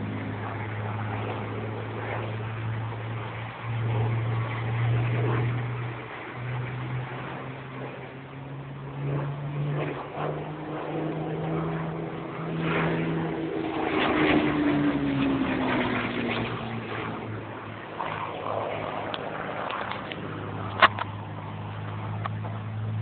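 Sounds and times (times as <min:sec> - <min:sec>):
propeller plane engine passing: 0:00.0 - 0:23.0.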